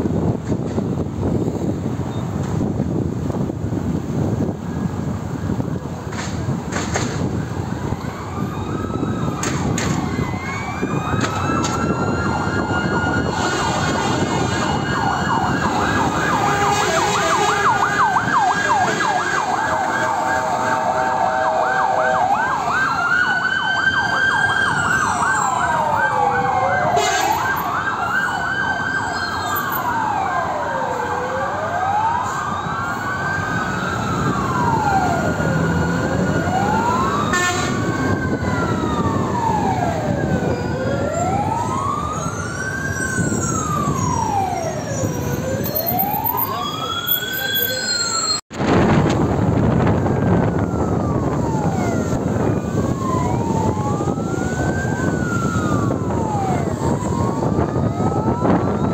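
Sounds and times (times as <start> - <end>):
fire truck sirens: 0.0 - 58.9
traffic noise: 0.0 - 58.9
truck engines: 0.0 - 58.9.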